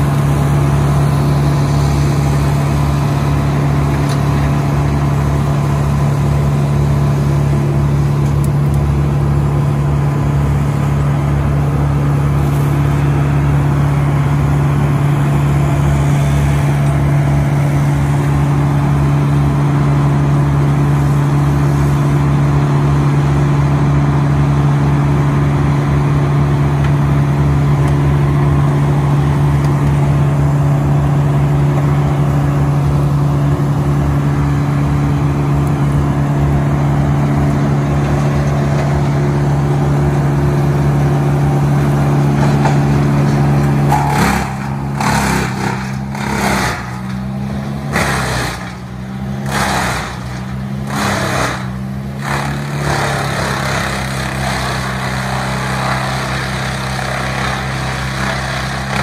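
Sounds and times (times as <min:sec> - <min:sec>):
wood chipper engine running: 0:00.0 - 0:59.0.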